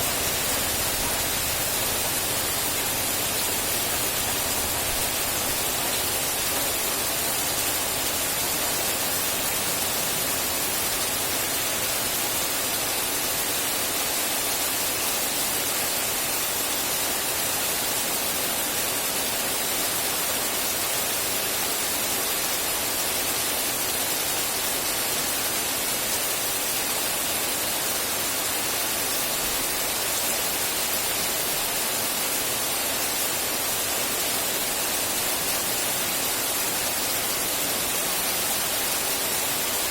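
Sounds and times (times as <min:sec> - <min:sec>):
steady hiss of rain: 0:00.0 - 0:39.9.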